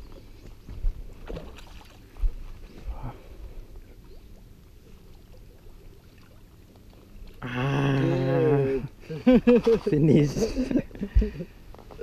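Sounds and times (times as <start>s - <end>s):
water lapping against boat: 0.0s - 12.0s.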